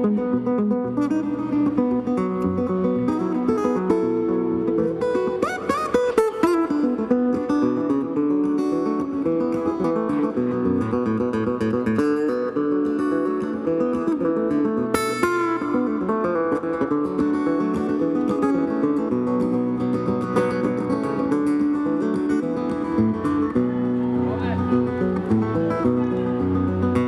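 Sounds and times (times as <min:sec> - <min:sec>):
guitar accompaniment: 0:00.0 - 0:27.0.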